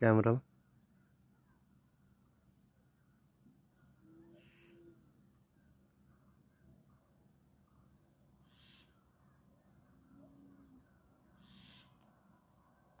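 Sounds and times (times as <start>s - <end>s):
faint hissy bird calls: 0.7s - 6.9s, 7.5s - 12.9s.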